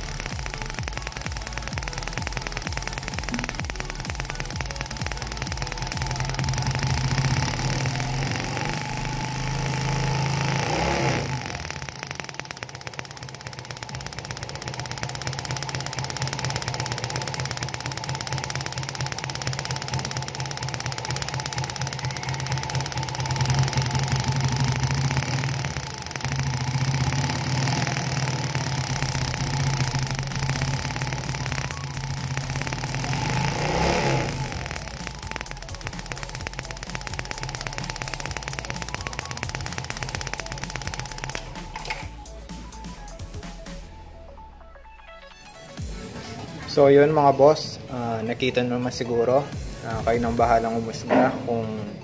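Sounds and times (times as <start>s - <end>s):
motorcycle engine cranking: 0.0s - 43.9s
faint ticking: 0.0s - 45.0s.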